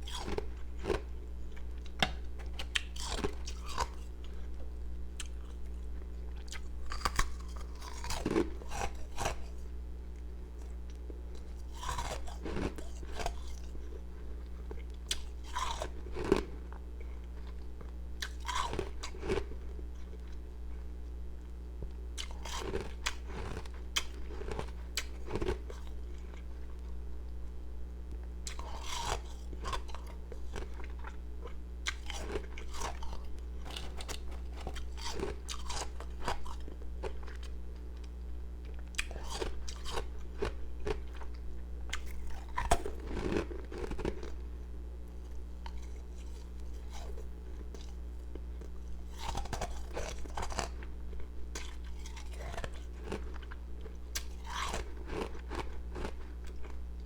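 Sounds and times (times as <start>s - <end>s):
ice crunching while chewed: 0.0s - 20.4s, 22.2s - 27.4s, 28.4s - 57.0s.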